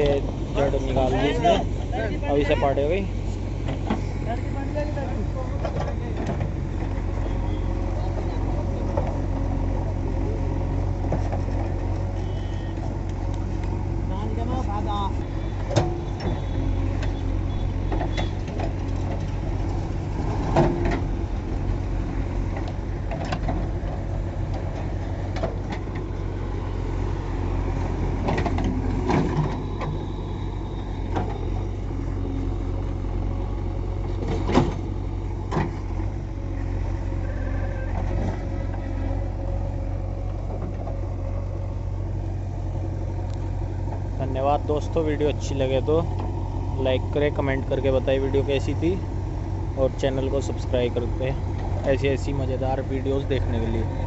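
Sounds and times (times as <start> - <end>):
backhoe diesel engine running: 0.0 - 54.0.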